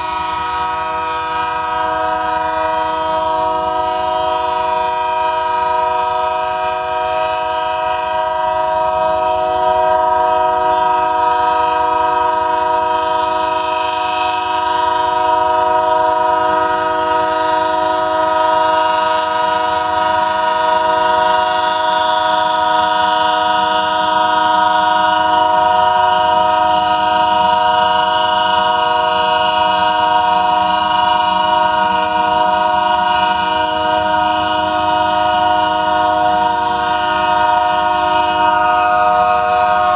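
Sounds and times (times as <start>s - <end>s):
train horn chord: 0.0s - 39.9s.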